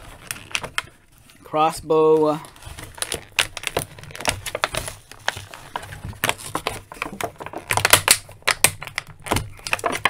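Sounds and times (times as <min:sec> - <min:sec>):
plastic packaging crackling: 0:00.0 - 0:10.0.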